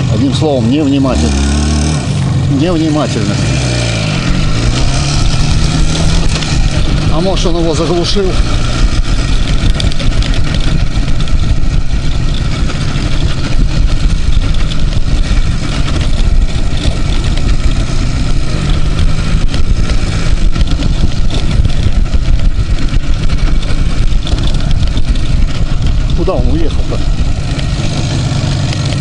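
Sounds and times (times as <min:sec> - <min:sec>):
two-stroke motorcycle engine rumble: 0:00.0 - 0:29.0.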